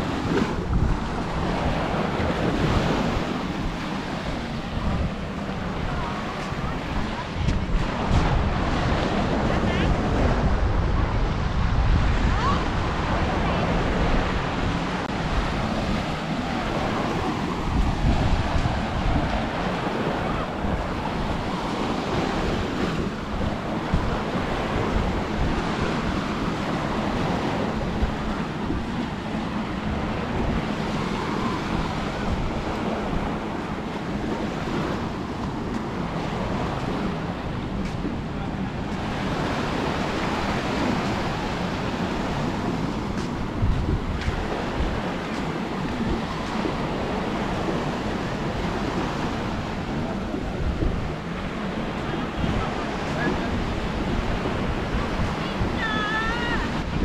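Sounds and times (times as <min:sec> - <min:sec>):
small waves breaking on beach: 0:00.0 - 0:57.0
wind buffeting microphone: 0:00.0 - 0:57.0.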